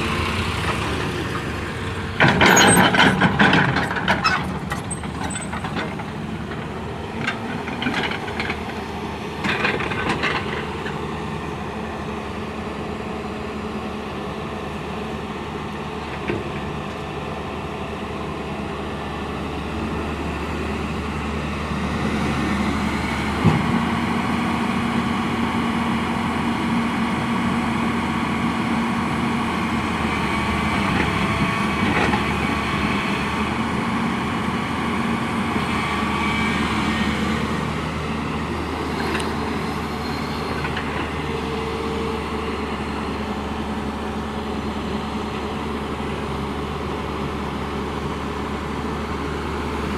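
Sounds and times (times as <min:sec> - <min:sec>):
diesel engine of heavy machinery: 0:00.0 - 0:49.9.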